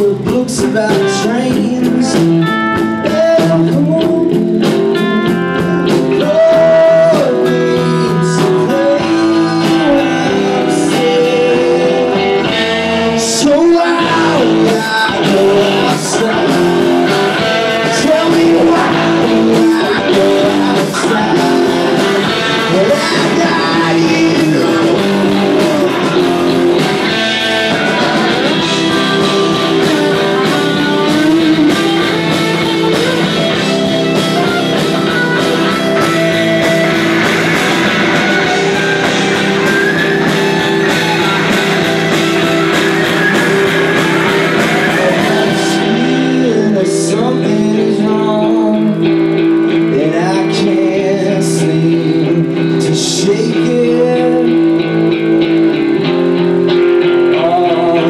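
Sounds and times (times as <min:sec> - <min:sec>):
person singing: 0:00.0 - 0:55.4, 0:57.1 - 0:58.0
drums: 0:00.0 - 0:58.0
electric guitars: 0:00.0 - 0:58.0.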